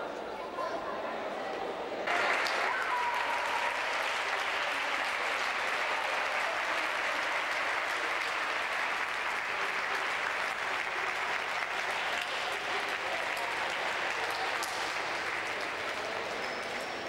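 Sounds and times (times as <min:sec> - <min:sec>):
people applauding: 0:02.0 - 0:17.0.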